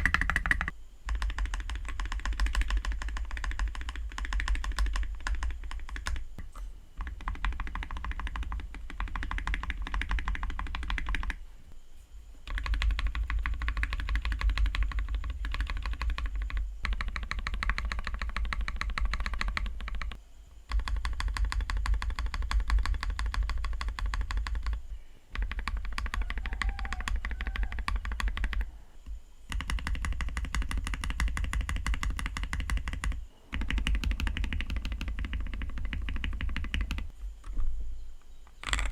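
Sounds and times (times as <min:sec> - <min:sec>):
mechanical keyboard typing: 0:00.0 - 0:06.4, 0:07.0 - 0:11.4, 0:12.5 - 0:28.7, 0:29.5 - 0:37.1.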